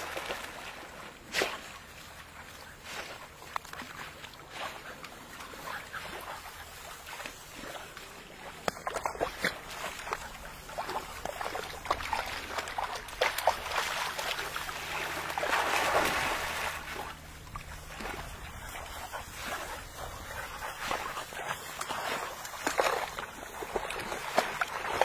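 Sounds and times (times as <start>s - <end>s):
water splashing and lapping: 0.0s - 25.0s.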